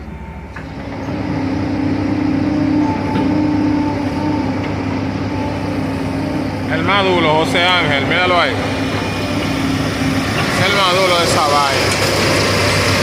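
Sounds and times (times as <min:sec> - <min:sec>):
excavator diesel engine under load: 0:00.0 - 0:13.0
steady engine whine: 0:00.0 - 0:13.0.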